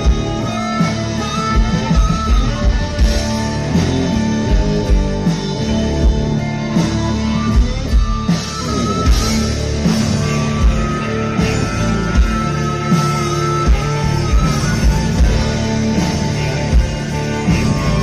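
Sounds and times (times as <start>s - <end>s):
amplified harmonica: 0.0s - 18.0s
drums: 0.0s - 18.0s
electric guitar: 0.0s - 18.0s.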